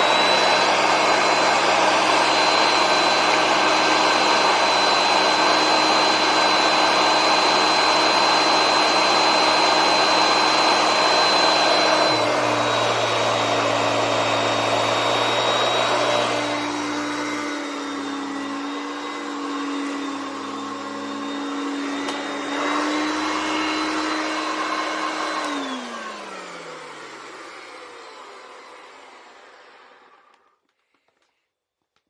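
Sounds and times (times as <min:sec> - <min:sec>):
vacuum cleaner motor whining: 0:00.0 - 0:31.3.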